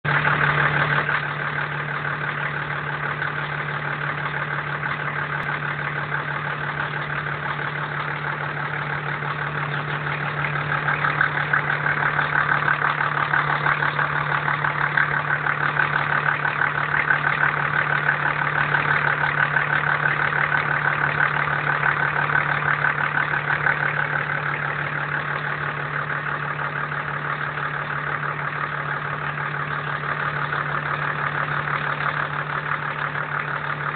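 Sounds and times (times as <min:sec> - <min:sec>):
engine idling with ticking knock: 0:00.0 - 0:33.9.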